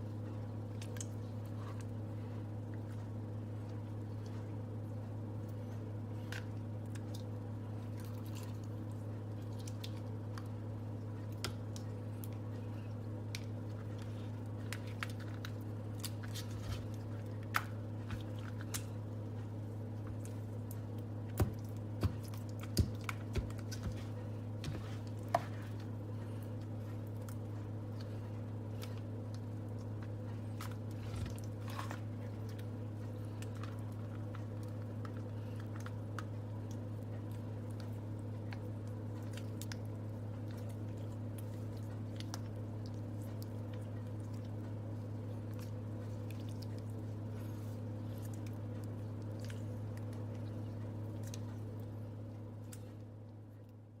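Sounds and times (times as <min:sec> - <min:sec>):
low electrical hum: 0:00.0 - 0:54.0
slime squishing: 0:00.1 - 0:54.0.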